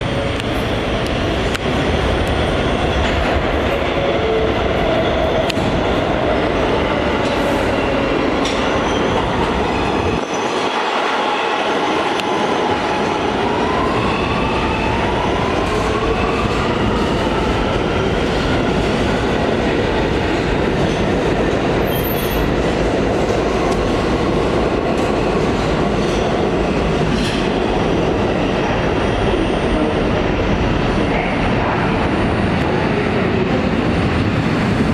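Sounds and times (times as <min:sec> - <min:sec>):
rail and wheel noise: 0:00.0 - 0:34.9
subway train running: 0:00.0 - 0:34.9.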